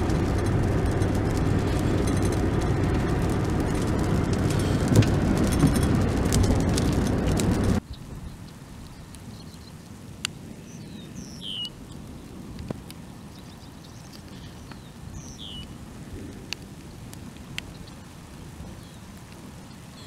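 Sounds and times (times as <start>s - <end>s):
raindrops ticking on a surface: 0.0s - 7.8s, 8.4s - 20.0s
light rain: 0.0s - 20.0s.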